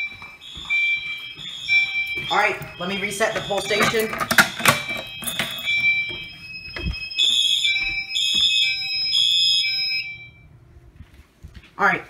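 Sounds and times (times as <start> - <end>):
high alarm tones: 0.0 - 10.8
pulsing high beep: 0.6 - 10.4.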